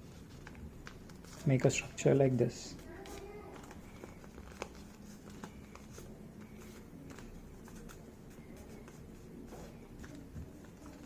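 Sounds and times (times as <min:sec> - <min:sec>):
paper rustling and creasing: 0:00.0 - 0:11.0.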